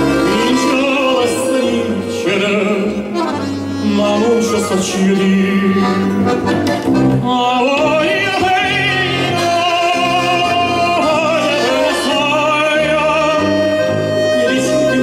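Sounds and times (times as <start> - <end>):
band accompaniment with bass line: 0.0 - 15.0
person singing with vibrato: 0.0 - 15.0.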